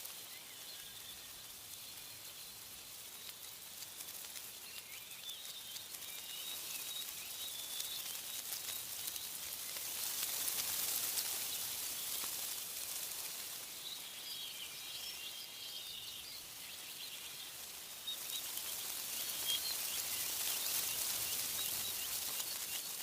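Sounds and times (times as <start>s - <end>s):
faint bird chirps: 0.0s - 23.0s
wind rustling tree leaves: 0.0s - 23.0s.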